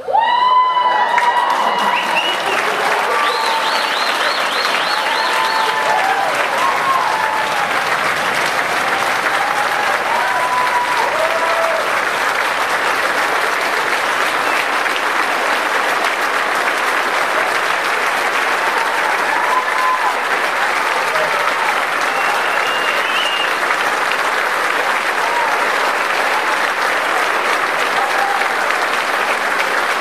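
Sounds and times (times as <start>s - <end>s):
crowd applauding: 0.0s - 30.0s.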